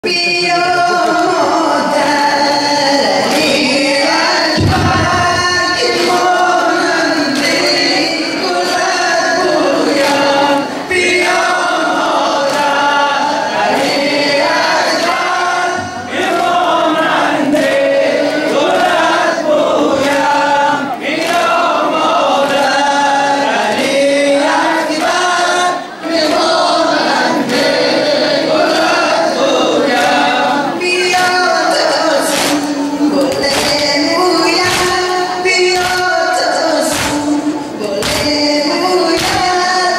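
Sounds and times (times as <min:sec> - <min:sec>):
men singing a lament: 0:00.0 - 0:39.9.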